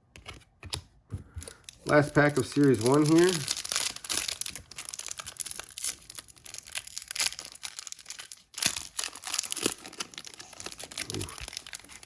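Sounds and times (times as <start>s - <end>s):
wrapper tearing and crinkling: 1.5s - 12.0s.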